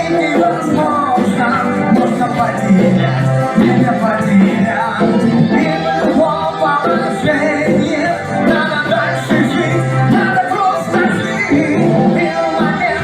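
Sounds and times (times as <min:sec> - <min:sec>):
band playing a song: 0:00.0 - 0:13.0
bass line: 0:00.0 - 0:13.0
person singing: 0:00.0 - 0:13.0.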